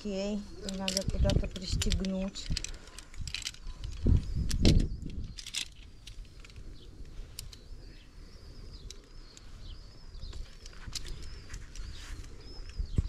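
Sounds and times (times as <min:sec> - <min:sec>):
rustle of gear and rope: 0:00.4 - 0:13.0.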